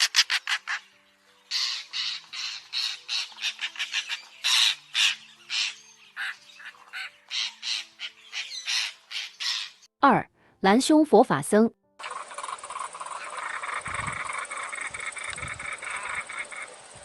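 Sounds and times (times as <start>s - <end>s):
bird giving harsh rasping calls: 0.0s - 0.8s, 1.5s - 9.9s, 12.0s - 16.8s
soft background music: 0.0s - 17.0s.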